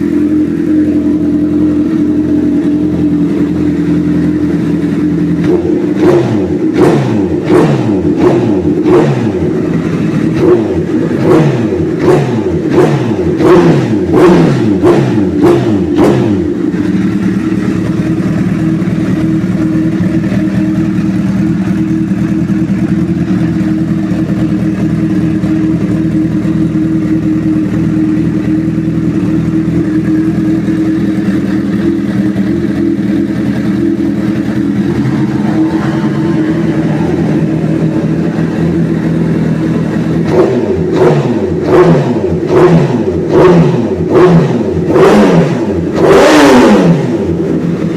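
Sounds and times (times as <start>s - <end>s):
motorcycle engine revving and idling: 0.0s - 47.9s.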